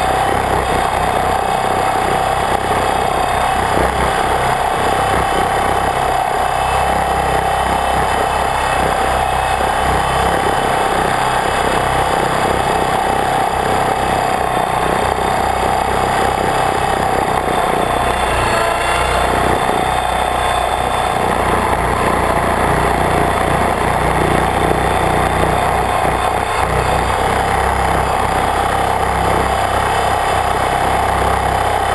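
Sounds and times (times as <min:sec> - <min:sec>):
drone propellers buzzing whine: 0:00.0 - 0:31.9.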